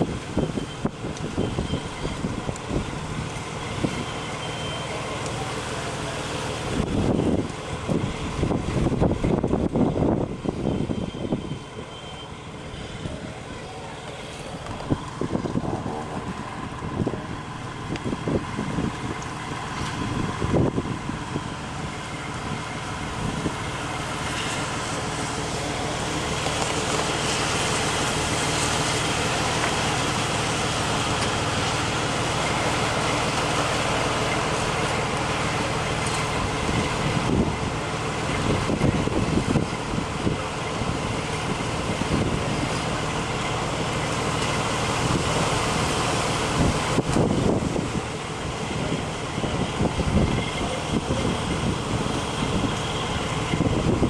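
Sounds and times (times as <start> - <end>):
wind rumbling on microphone: 0.0 - 4.3, 6.6 - 11.9, 12.5 - 54.0
diesel engine idling: 0.0 - 54.0.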